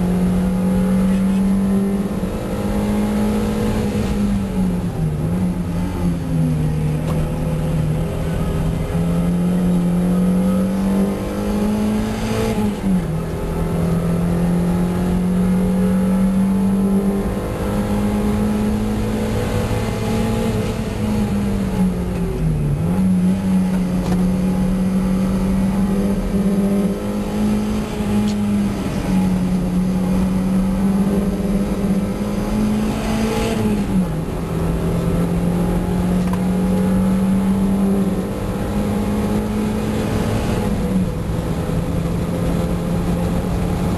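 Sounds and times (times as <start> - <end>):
car engine at high revs: 0.0 - 43.9.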